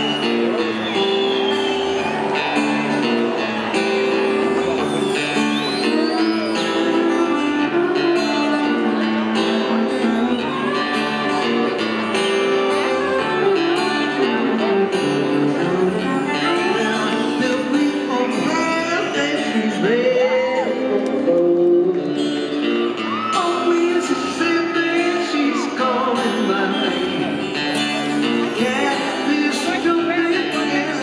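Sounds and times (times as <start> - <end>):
strummed acoustic guitars: 0.0 - 31.0.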